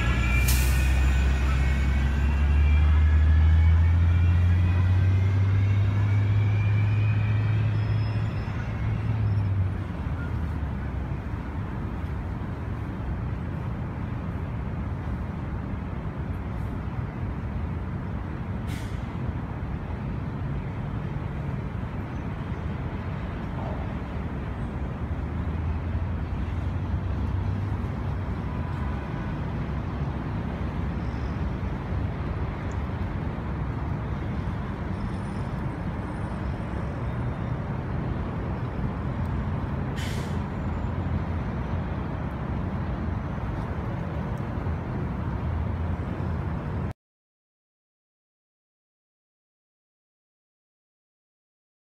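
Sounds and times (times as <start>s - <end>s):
traffic and street noise: 0.0s - 47.0s.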